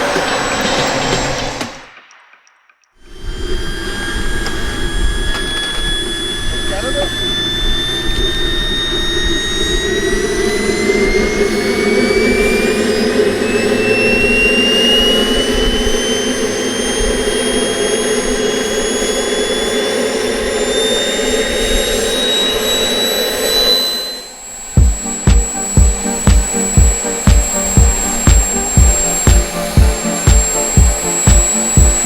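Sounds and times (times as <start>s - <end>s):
jet turbine engine whining: 0.0s - 2.3s, 3.0s - 32.0s.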